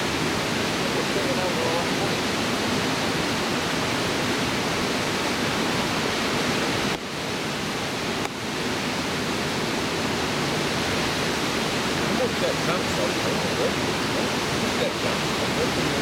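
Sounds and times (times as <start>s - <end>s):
fast-flowing river water: 0.0s - 16.0s.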